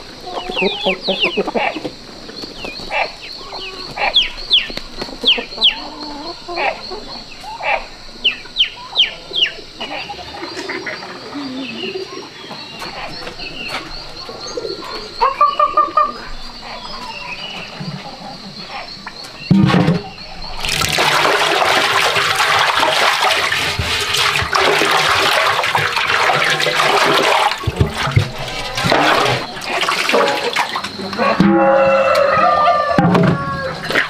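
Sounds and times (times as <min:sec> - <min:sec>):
chickens clucking: 0:00.0 - 0:34.0
chickens peeping: 0:00.0 - 0:34.0.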